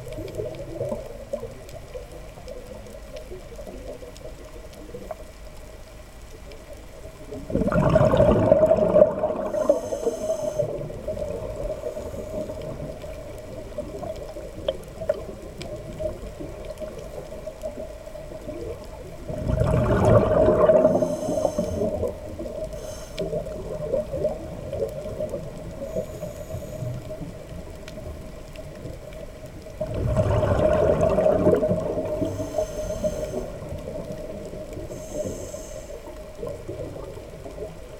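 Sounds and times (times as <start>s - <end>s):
faint steady hum: 0.0s - 37.9s
regulator bubbles gurgling underwater: 0.0s - 37.9s.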